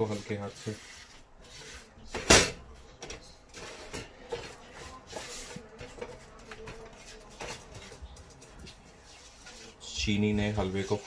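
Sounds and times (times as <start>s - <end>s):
spatula scraping a pan: 0.0s - 2.3s, 3.3s - 11.0s.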